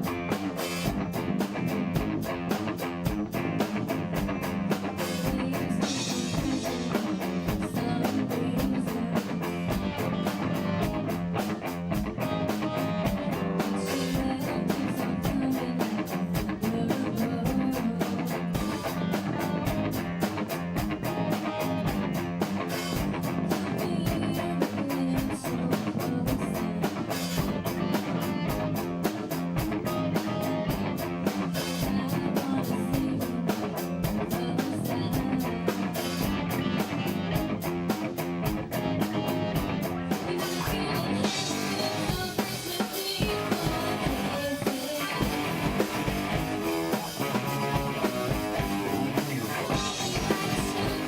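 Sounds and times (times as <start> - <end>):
drum kit beat: 0.0 - 51.0
guitars: 0.0 - 51.0
rock band playing: 0.0 - 51.0.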